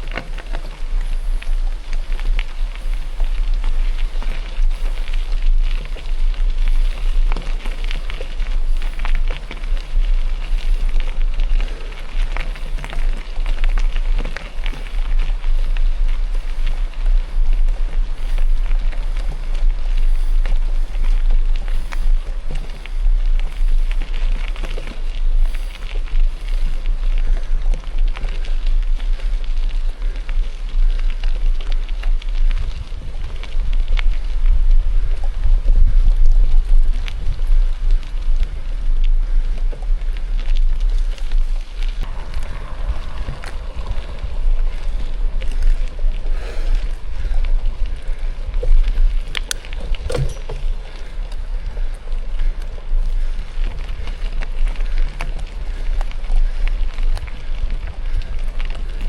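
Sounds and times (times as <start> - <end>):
bike rattling: 0.0 - 59.0
tyres crackling on loose stones: 0.0 - 59.0
wind rumble on microphone: 0.0 - 59.0.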